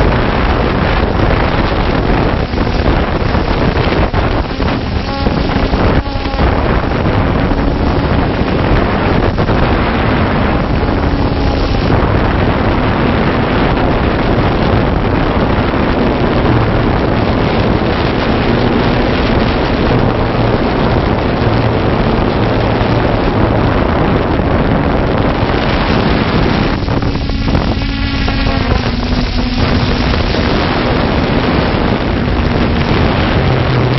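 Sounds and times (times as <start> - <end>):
drone motors whirring: 0.0 - 33.9
rushing noise: 0.0 - 33.9.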